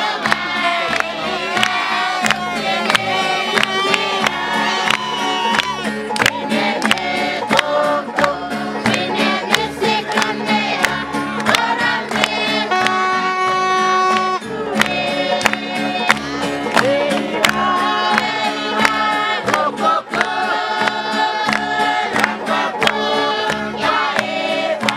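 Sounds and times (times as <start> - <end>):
group of voices singing: 0.0 - 13.4, 14.2 - 24.9.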